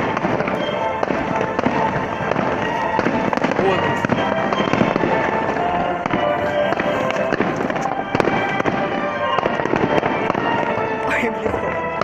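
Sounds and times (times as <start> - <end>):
firework bangs and crackles: 0.0 - 12.0
music with held notes: 0.0 - 12.0.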